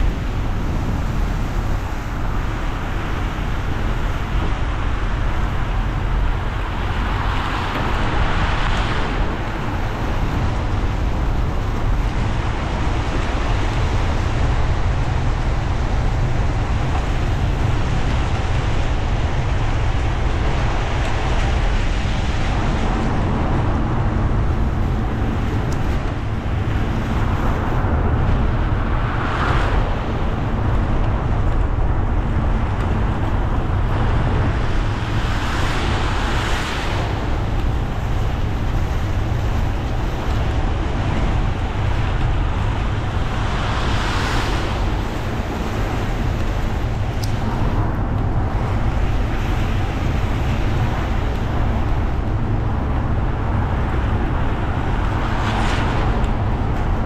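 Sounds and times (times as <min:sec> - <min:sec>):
deep road rumble: 0:00.0 - 0:57.0.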